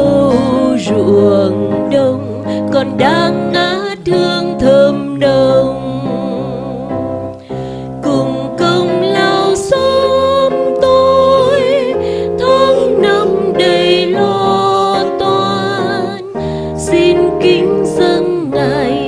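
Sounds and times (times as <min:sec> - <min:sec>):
instrumental accompaniment: 0:00.0 - 0:19.0
person singing a hymn: 0:00.0 - 0:19.0.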